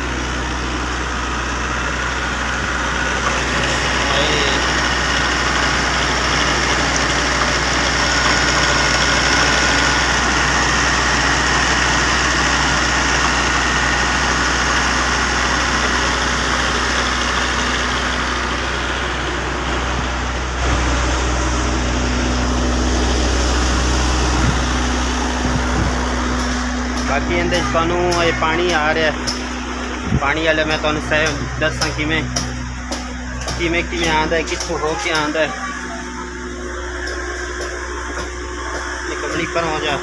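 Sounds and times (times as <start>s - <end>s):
generator engine running: 0.0s - 40.0s.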